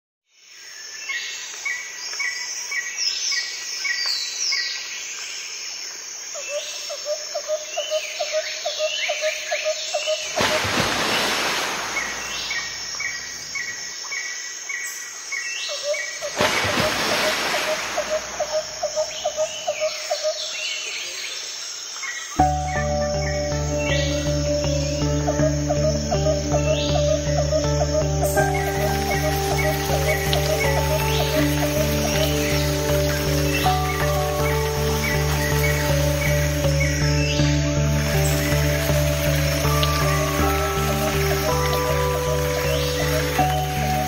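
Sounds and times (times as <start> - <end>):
birds chirping and calling: 6.4 - 21.4, 22.0 - 44.0.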